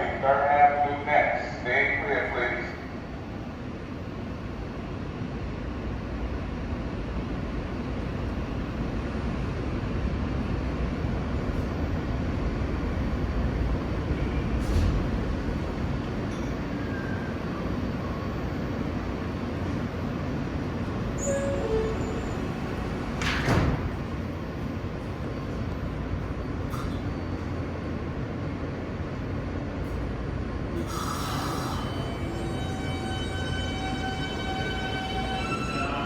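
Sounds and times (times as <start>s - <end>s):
subway train rumbling in tunnel: 0.0s - 36.0s.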